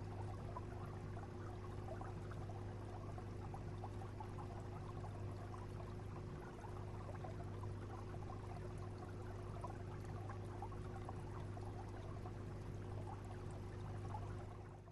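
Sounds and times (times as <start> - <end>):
low pump hum: 0.0 - 14.9
water trickling and bubbling: 0.0 - 14.9.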